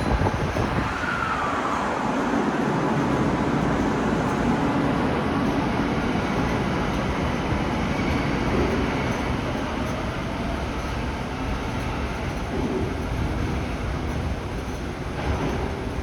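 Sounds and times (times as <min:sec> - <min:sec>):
train running through underground station: 0:00.0 - 0:16.0.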